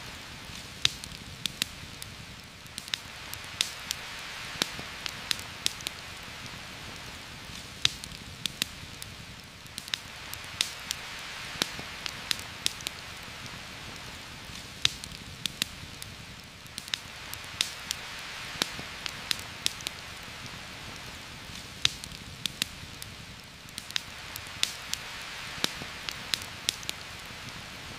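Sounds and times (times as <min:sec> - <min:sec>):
campfire crackling: 0:00.0 - 0:27.9
heavy rain on foliage: 0:00.0 - 0:27.9.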